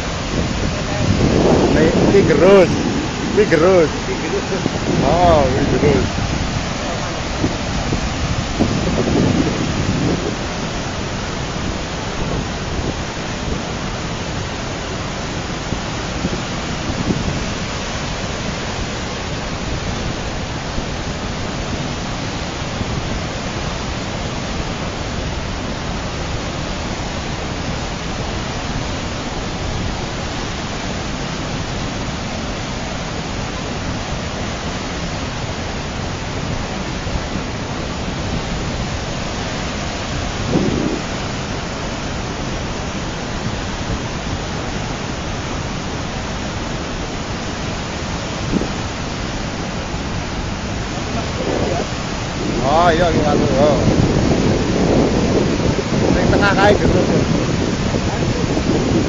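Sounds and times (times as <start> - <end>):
flood water rushing: 0.0 - 59.0.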